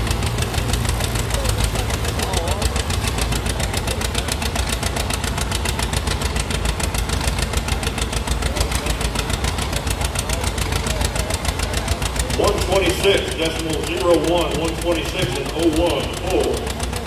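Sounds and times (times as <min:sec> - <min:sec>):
diesel engine under heavy load: 0:00.0 - 0:17.0.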